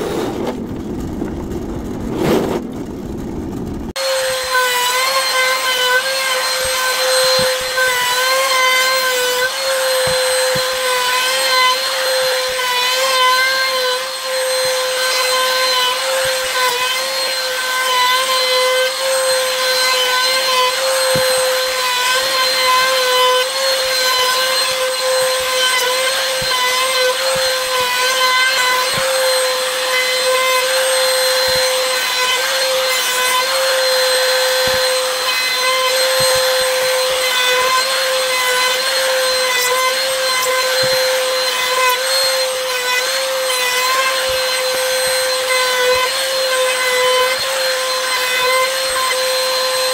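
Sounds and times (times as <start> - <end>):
power tool whine: 0.0 - 49.9.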